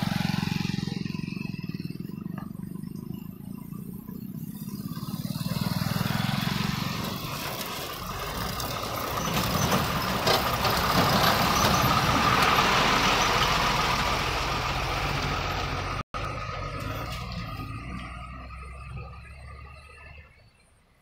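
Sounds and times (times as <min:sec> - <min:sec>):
diesel train engine rumble: 0:00.0 - 0:21.0.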